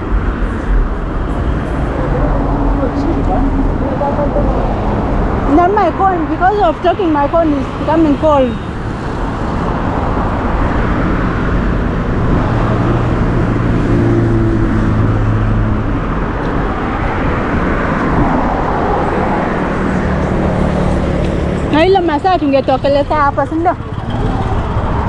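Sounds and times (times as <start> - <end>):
heavy vehicle engine hum: 0.0 - 25.0
road traffic passing: 0.0 - 25.0.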